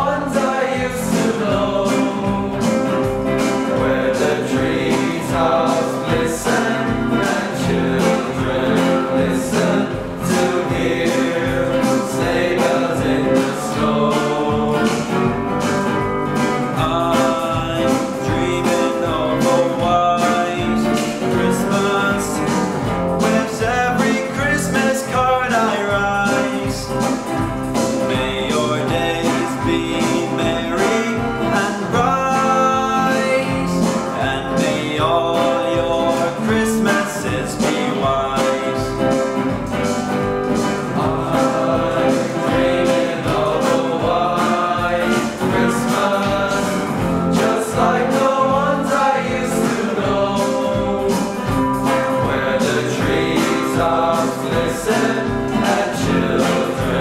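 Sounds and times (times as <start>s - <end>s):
guitar: 0.0s - 57.0s
men singing a christmas song: 0.0s - 57.0s
steady beat: 0.0s - 57.0s.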